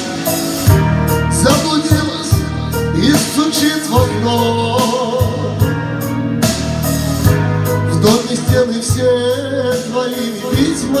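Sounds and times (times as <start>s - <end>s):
band accompaniment: 0.0s - 11.0s
low bass: 0.0s - 11.0s.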